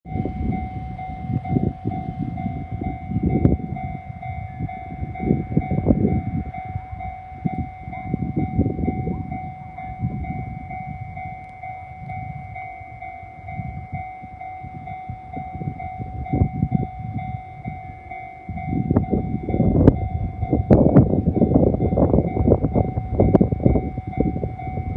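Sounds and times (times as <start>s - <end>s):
level-crossing warning bell: 0.1s - 24.9s.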